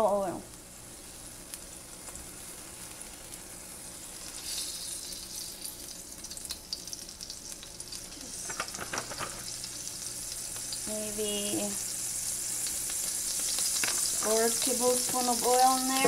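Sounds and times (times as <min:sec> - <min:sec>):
wok sizzling: 0:00.0 - 0:16.0.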